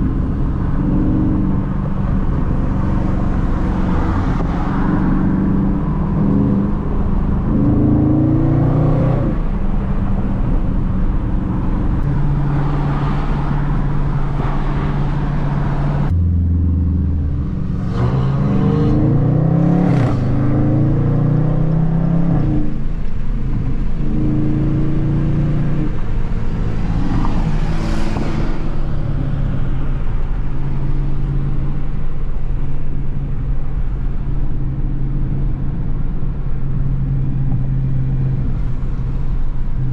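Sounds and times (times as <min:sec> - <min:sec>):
car engine cruising and revving: 0:00.0 - 0:39.9.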